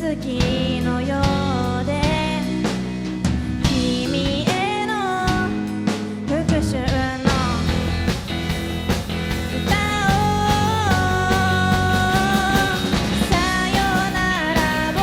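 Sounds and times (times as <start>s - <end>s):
person singing: 0.0s - 2.8s, 3.6s - 7.9s, 9.6s - 15.0s
rock band playing live: 0.0s - 15.0s
drum hits: 1.3s - 15.0s.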